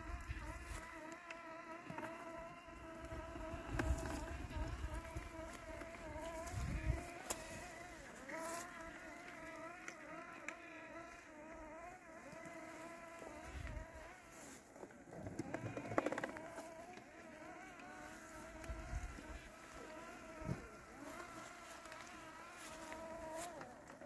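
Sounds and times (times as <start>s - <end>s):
robotic lawn mower motor whine: 0.0s - 24.0s.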